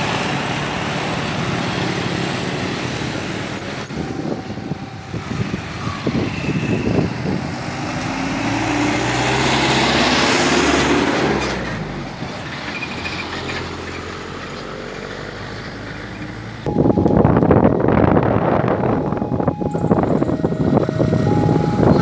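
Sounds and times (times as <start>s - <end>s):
motorcycles passing: 0.0s - 12.7s, 14.1s - 22.0s
bus engine passing: 0.0s - 22.0s
pickup truck passing: 0.0s - 22.0s.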